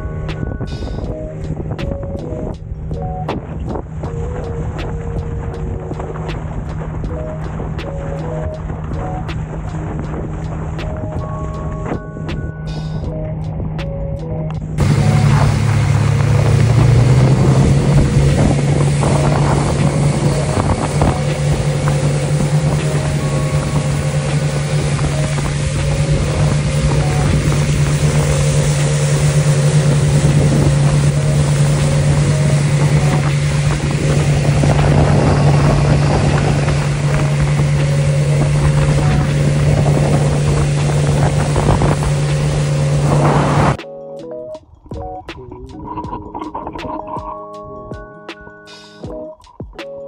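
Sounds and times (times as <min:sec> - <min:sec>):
outboard motor drone: 0:00.0 - 0:43.8
water rushing along hull: 0:00.0 - 0:43.8, 0:44.6 - 0:47.9
wind on microphone: 0:00.0 - 0:43.8, 0:44.6 - 0:48.2.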